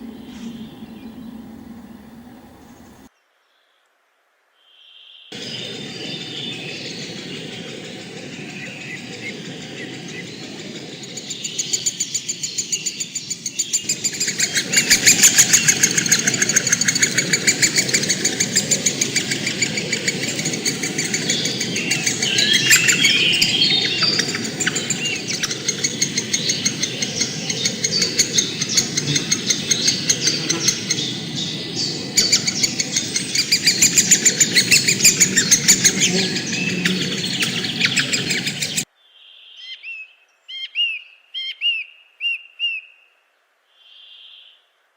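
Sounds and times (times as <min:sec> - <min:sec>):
birds chirping: 0:00.0 - 0:03.1, 0:05.3 - 0:41.1.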